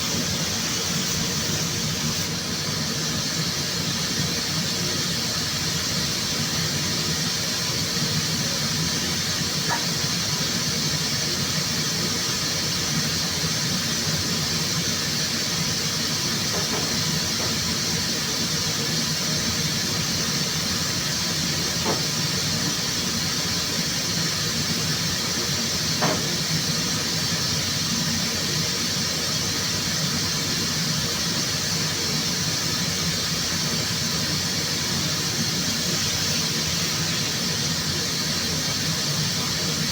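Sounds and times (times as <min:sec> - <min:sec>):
rushing air hiss: 0:00.0 - 0:39.9.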